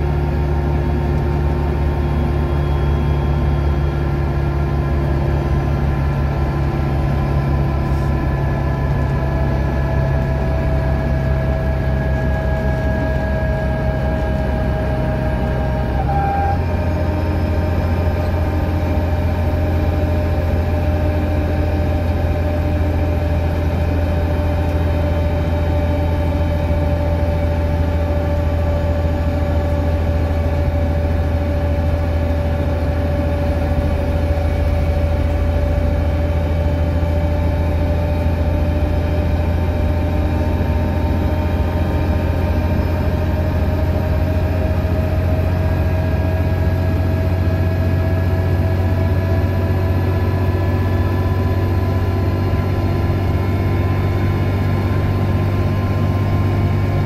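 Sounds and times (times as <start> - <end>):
bus engine and road drone: 0.0 - 57.0
rear axle whine: 0.0 - 57.0.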